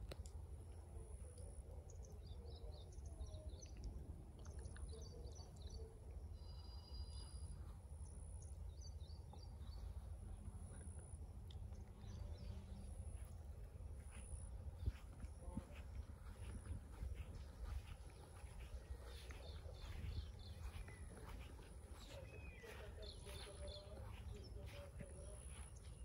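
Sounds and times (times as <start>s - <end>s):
low steady rumble: 0.0s - 26.0s
small birds chirping: 0.1s - 26.0s.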